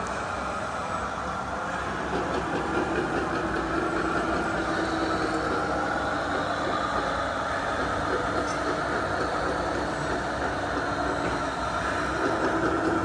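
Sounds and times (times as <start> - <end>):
toy truck motor drone: 1.9 - 13.0.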